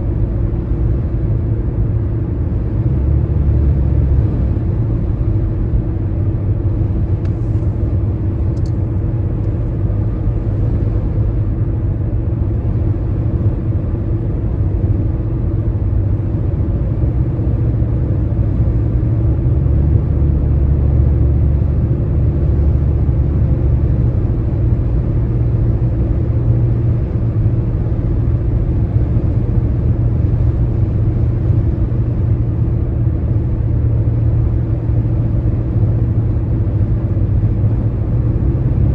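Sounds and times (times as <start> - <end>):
car driving at highway speed: 0.0 - 38.9.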